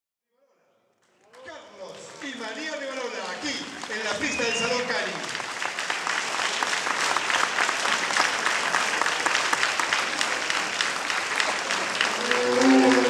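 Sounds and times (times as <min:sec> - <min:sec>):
audience applauding: 0:01.0 - 0:13.0.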